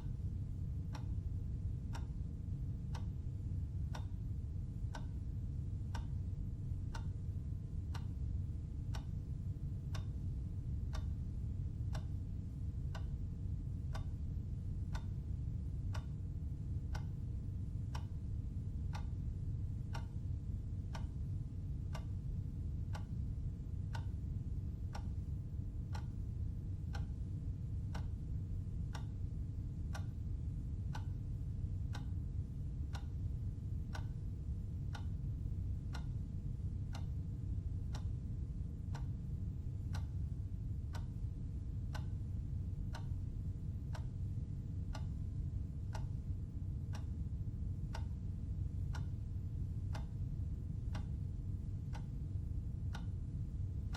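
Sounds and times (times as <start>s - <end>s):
steady low hum: 0.0s - 53.9s
clock ticking: 0.8s - 1.2s, 3.8s - 5.2s, 7.9s - 16.2s, 16.8s - 30.2s, 30.8s - 31.2s, 31.8s - 34.3s, 34.9s - 38.1s, 38.9s - 52.2s, 52.9s - 53.9s.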